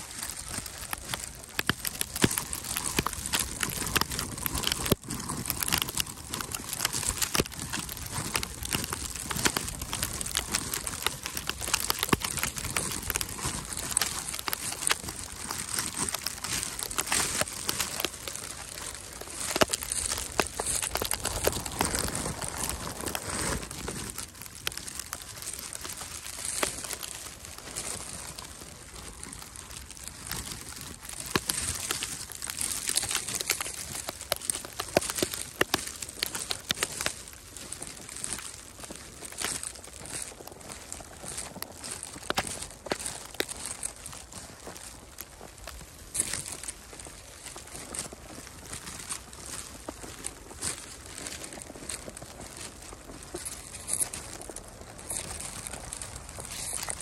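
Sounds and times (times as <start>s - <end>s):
footsteps crunching in snow: 0.0s - 57.0s.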